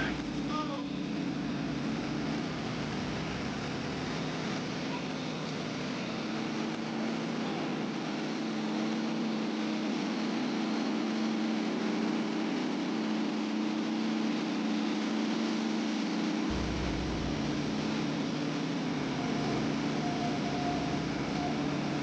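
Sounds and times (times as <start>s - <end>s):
sawmill mechanical drone: 0.0s - 22.0s.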